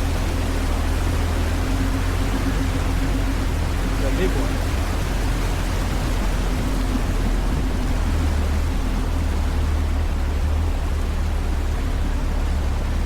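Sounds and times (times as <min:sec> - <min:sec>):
vehicle engine running: 0:00.0 - 0:13.0
water rushing: 0:00.0 - 0:13.0.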